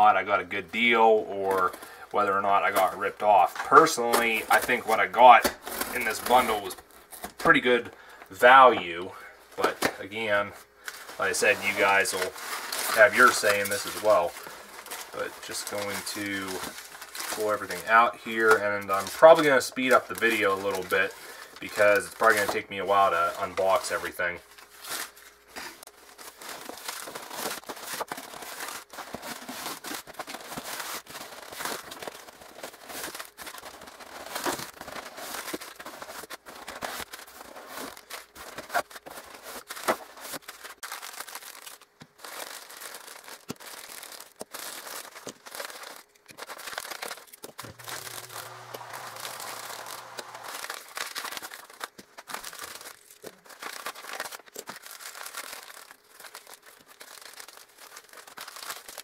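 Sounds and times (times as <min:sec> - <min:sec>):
paper crumpling and rustling: 0:00.7 - 0:08.1, 0:09.5 - 0:59.0.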